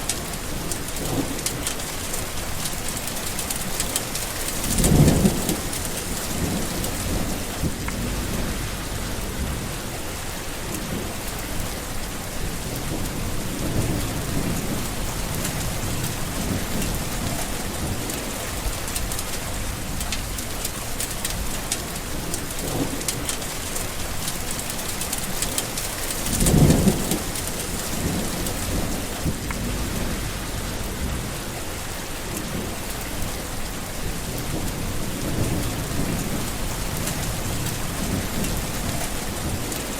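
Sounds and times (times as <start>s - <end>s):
thunder rumbling: 0.0s - 20.4s, 21.3s - 39.9s
heavy rain: 0.0s - 39.9s.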